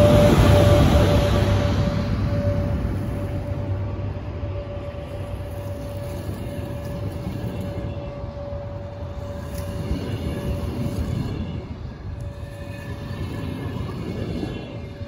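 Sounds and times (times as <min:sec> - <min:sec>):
constant high hum: 0:00.0 - 0:15.0
train low rumble: 0:00.0 - 0:15.0.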